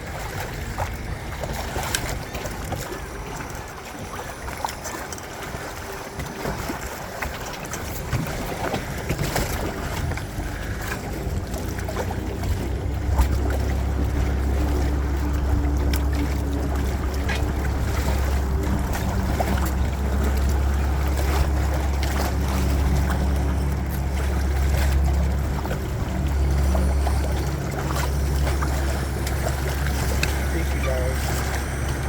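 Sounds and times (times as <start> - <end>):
steady low hum: 0.0 - 32.0
water washing past boat: 0.0 - 32.0.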